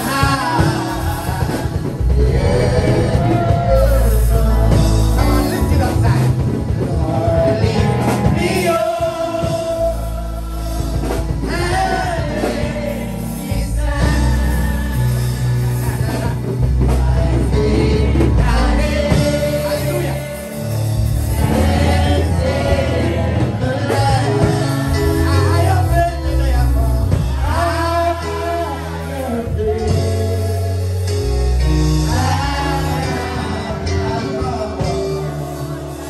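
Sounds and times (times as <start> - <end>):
man singing gospel song: 0.0 - 36.0
musical accompaniment with bass line: 0.0 - 36.0.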